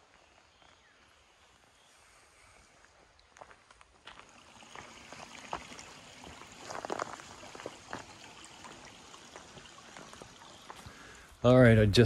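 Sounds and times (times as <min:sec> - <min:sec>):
footsteps on trail: 0:00.0 - 0:11.4
brook trickling: 0:00.0 - 0:12.0.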